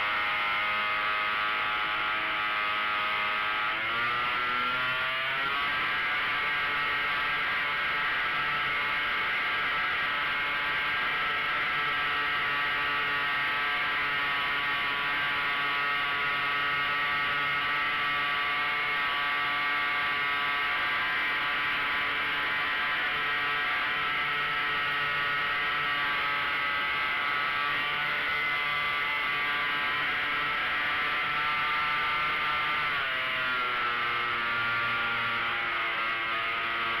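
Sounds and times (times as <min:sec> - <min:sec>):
model airplane engine droning: 0:00.0 - 0:37.0.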